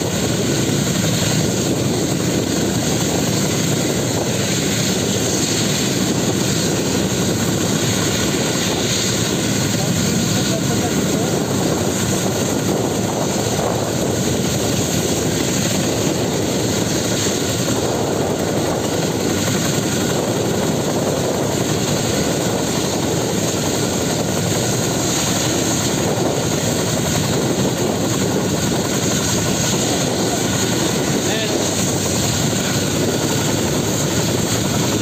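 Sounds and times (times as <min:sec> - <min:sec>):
helicopter running: 0:00.0 - 0:35.0.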